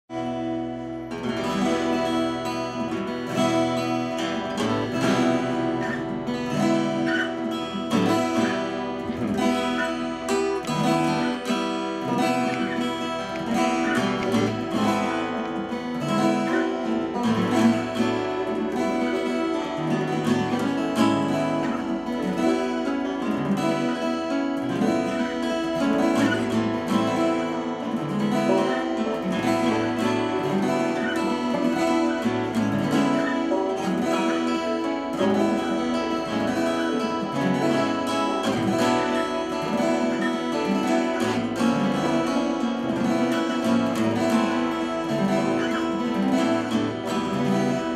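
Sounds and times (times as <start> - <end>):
acoustic guitars playing: 0.0 - 47.9.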